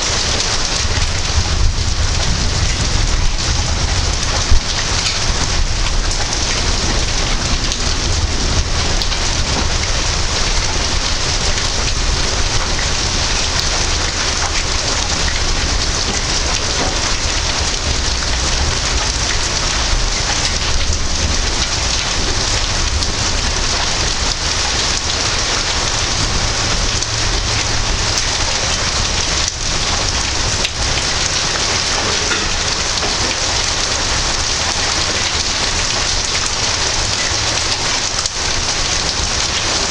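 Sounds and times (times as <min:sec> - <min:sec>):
heavy rain pouring: 0:00.0 - 0:39.9
low thunder rumble: 0:00.0 - 0:39.9.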